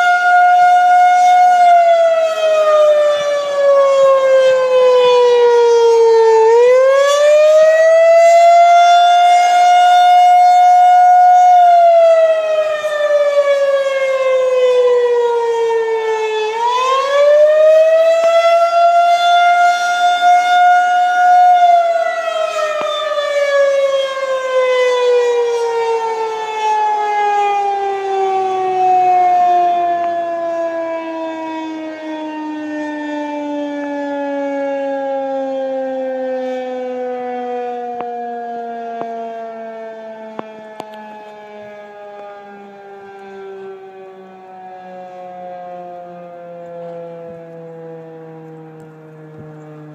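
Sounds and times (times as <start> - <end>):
tornado siren wailing: 0.0 - 49.9.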